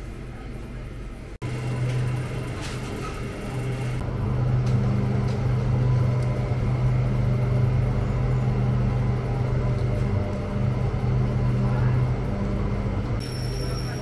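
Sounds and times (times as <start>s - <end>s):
low droning hum: 0.1s - 14.0s
higher hum: 1.4s - 14.0s.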